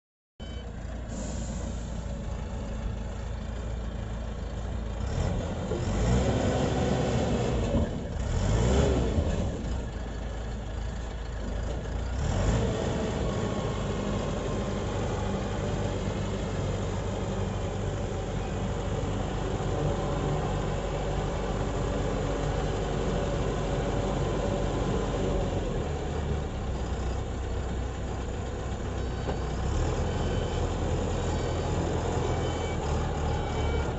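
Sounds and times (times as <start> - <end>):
truck diesel engine running: 0.6 - 33.9.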